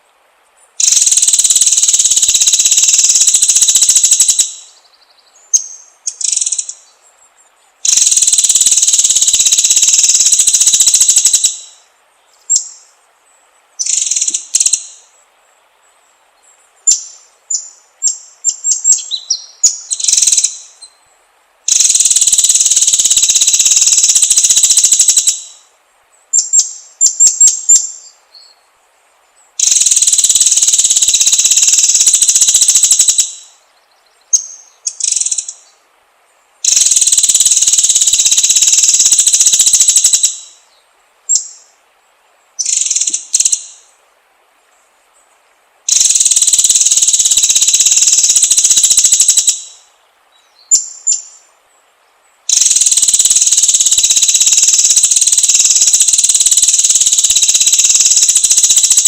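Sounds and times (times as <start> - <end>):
songbird long rapid trills: 0.0 - 59.0.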